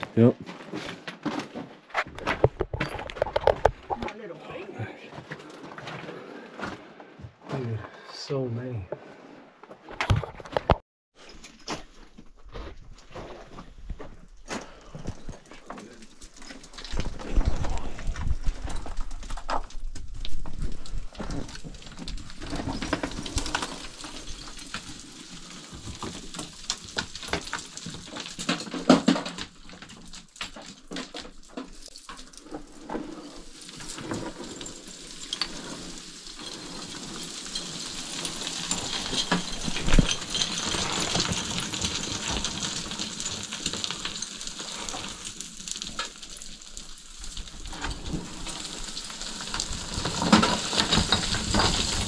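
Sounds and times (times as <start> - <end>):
rock and dirt scraping: 0.0 - 52.0.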